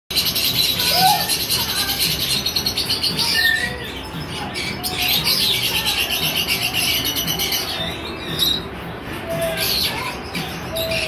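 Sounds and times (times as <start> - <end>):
lovebirds chattering and chirping: 0.1 - 11.0.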